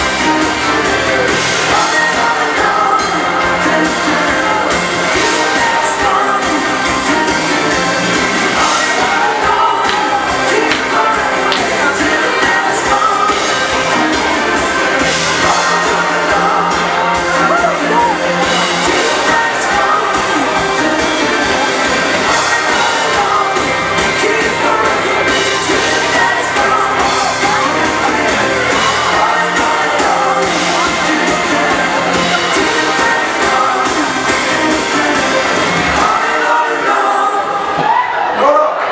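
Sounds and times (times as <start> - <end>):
live dance band music: 0.0 - 38.9
person singing: 0.0 - 38.9.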